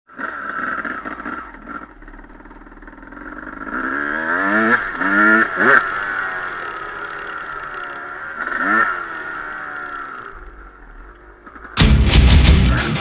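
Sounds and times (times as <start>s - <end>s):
motocross bike engine revving: 0.1s - 13.0s.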